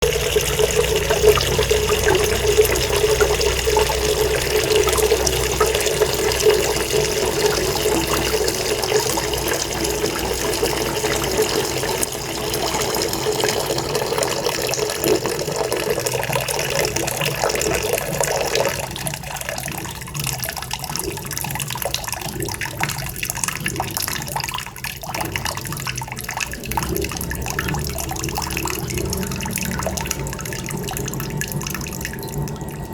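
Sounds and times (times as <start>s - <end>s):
tap water running into sink: 0.0s - 32.9s.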